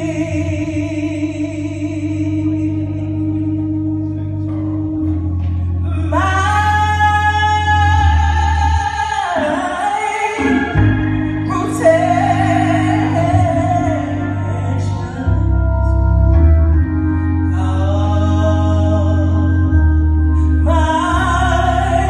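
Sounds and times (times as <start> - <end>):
woman singing gospel: 0.0 - 3.9, 5.8 - 22.0
organ chords: 0.0 - 22.0.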